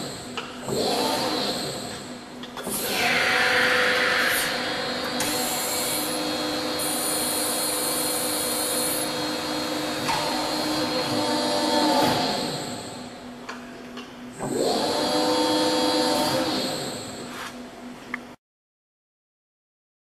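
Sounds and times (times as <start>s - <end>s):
hydraulic press whirring hum: 0.0s - 18.4s.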